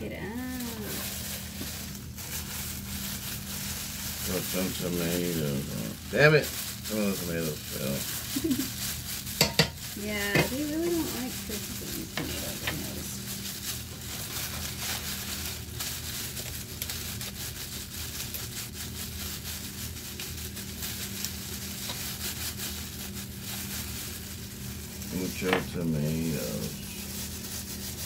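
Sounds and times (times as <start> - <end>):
plastic bag crinkling: 0.0 - 28.0
steady low hum: 0.0 - 28.0.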